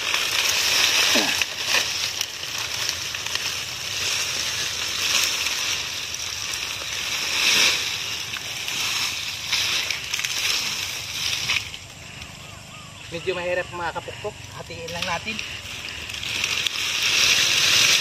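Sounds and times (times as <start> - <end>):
dry palm fronds dragged over grass: 0.0 - 18.0.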